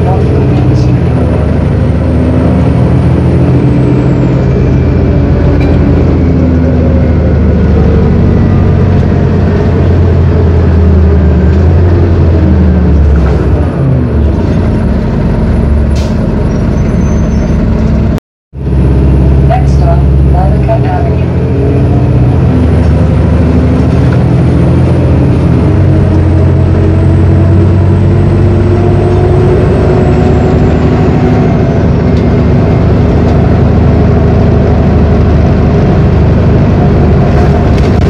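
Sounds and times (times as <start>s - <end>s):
diesel bus engine: 0.0s - 38.0s.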